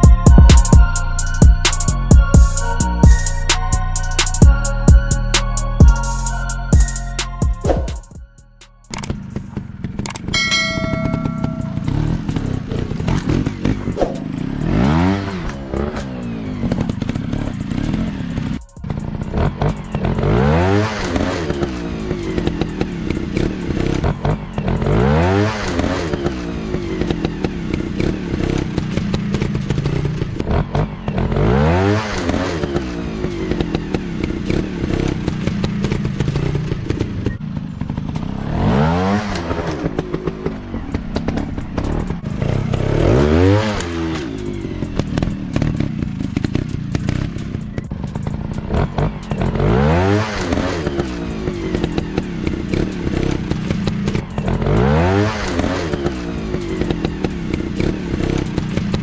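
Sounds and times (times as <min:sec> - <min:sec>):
dirt bike engines revving: 0:08.9 - 0:59.0.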